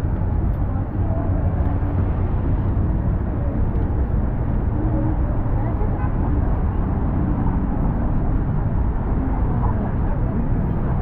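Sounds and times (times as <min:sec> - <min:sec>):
city low rumble: 0:00.0 - 0:11.0.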